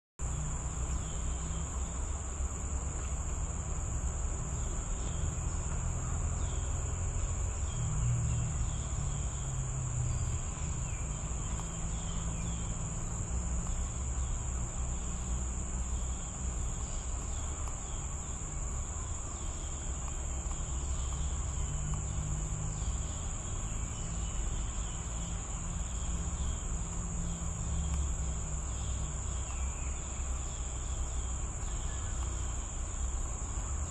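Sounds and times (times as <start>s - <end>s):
forest insects droning: 0.2s - 33.9s.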